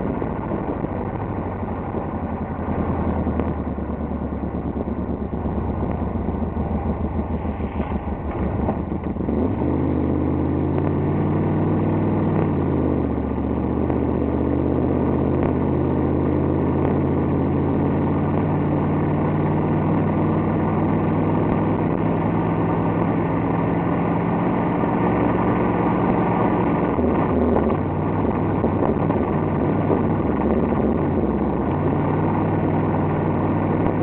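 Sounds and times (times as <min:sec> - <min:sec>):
car engine running: 0:00.0 - 0:34.0
road noise: 0:00.0 - 0:34.0.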